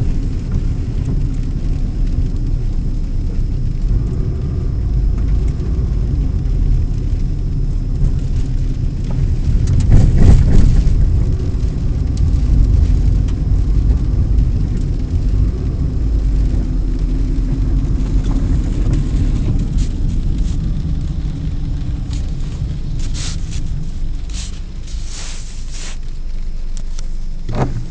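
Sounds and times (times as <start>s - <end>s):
car rumbling on the move: 0.0s - 27.9s.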